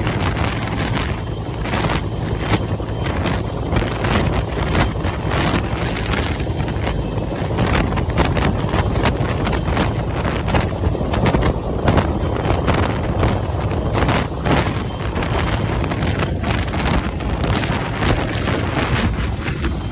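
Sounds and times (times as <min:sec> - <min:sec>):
helicopter rotor and engine: 0:00.0 - 0:19.9
wind buffeting microphone: 0:00.0 - 0:19.9.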